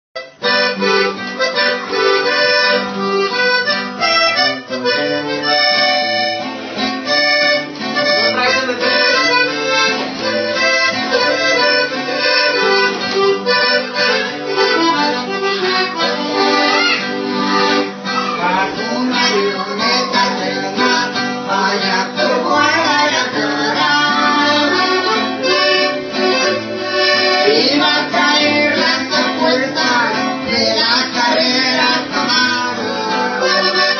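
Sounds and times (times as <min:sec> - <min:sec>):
accordion music: 0:00.2 - 0:33.9
plucked guitar: 0:00.2 - 0:33.9.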